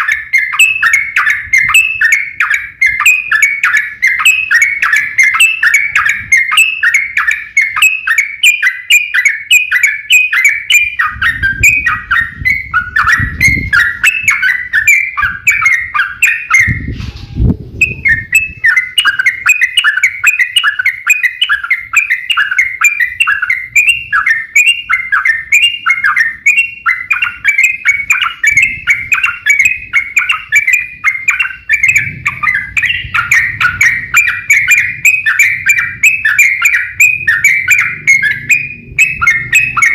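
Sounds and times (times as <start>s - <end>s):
bird singing fast bright notes: 0.0s - 39.9s.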